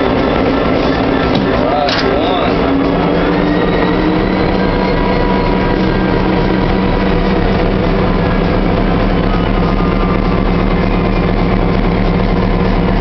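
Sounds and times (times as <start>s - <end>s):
diesel locomotive engine running: 0.0s - 13.0s
faint turbocharger whine: 0.0s - 13.0s.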